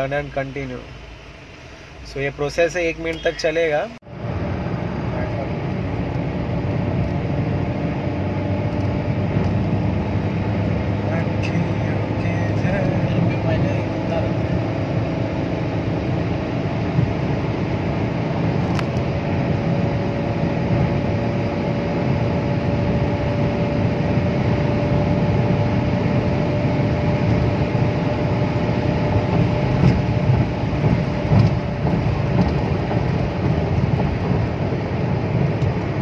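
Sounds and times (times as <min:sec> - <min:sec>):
diesel engine held at steady revs: 0:00.0 - 0:36.0.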